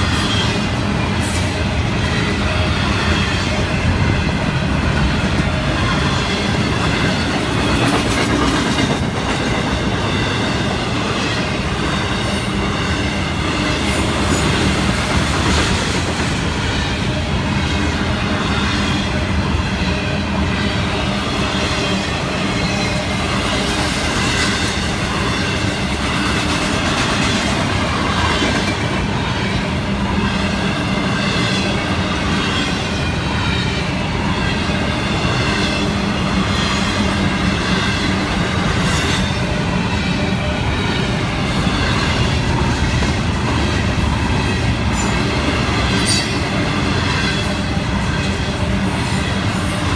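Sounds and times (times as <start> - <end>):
freight train wheels rumbling on rails: 0.0 - 49.9.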